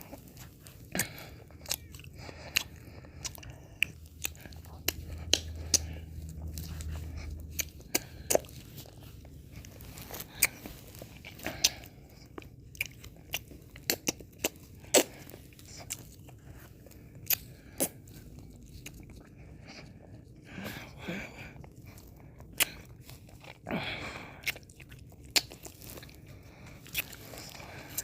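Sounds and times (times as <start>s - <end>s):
mouth licking and chewing: 0.0s - 28.0s.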